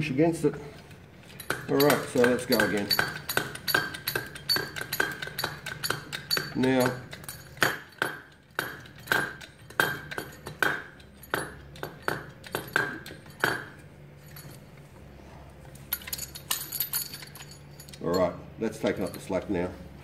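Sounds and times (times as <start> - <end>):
hydraulic pump metallic clinks: 0.7 - 14.8, 15.8 - 19.6.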